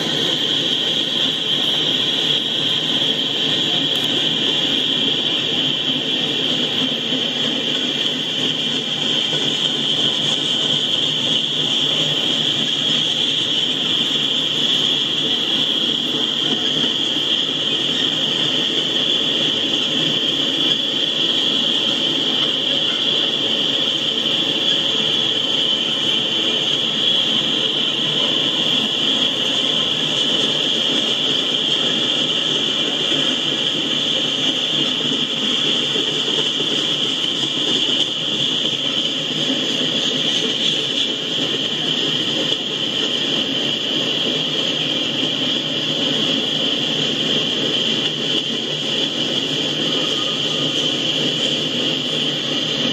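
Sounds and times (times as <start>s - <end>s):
continuous high whine: 0.0s - 52.9s
freight train cars rolling past: 0.0s - 52.9s.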